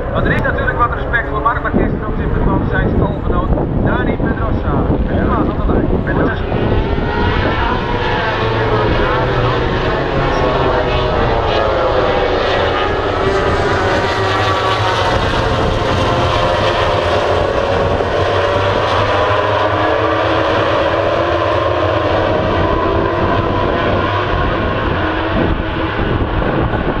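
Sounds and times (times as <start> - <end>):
racing motorcycles passing: 4.9 - 27.0.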